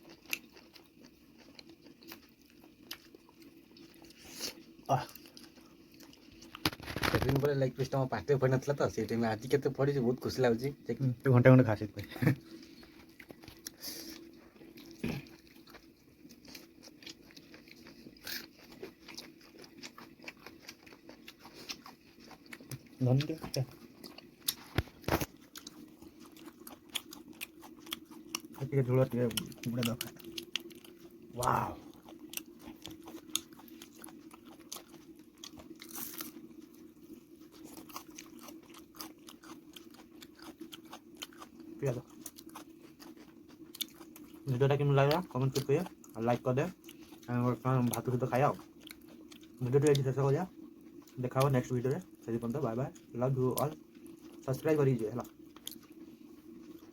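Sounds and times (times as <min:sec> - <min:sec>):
person chewing and biting: 0:00.0 - 0:08.0, 0:12.3 - 0:56.9.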